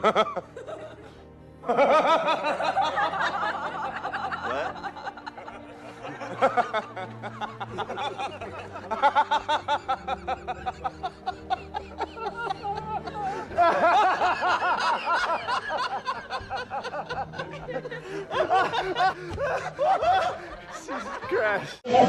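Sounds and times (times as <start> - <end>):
man laughing heartily: 0.0 - 22.0
soft background music: 0.0 - 22.0.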